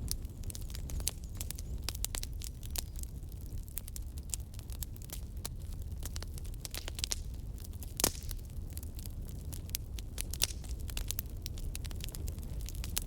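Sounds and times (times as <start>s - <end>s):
fire crackling: 0.0s - 13.0s.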